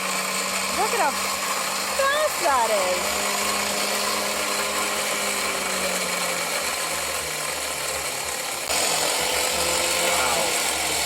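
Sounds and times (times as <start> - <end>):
electric winch motor whining: 0.0 - 11.0.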